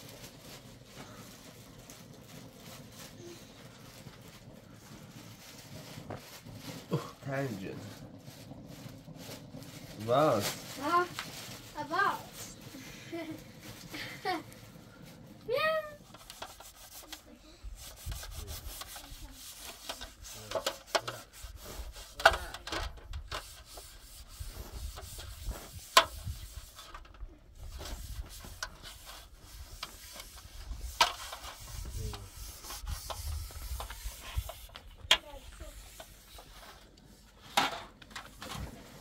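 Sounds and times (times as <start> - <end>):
rubbing and scraping on surface: 0.0 - 39.0.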